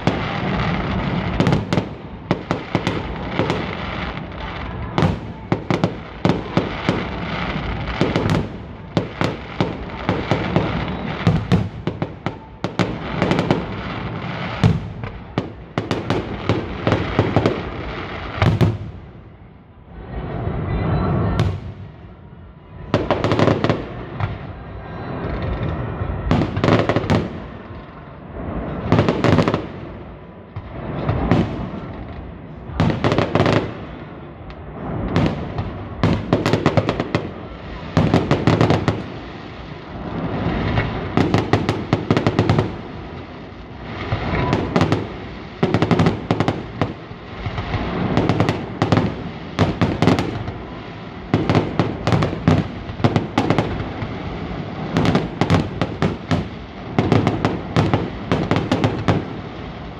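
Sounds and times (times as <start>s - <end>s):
fireworks bangs and crackles: 0.0s - 59.9s
low fireworks rumble: 0.0s - 59.9s.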